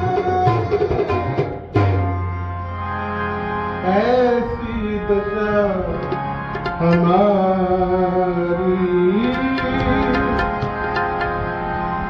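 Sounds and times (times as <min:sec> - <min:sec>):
tabla: 0:00.0 - 0:02.8, 0:04.3 - 0:12.0
instrumental drone: 0:00.0 - 0:12.0.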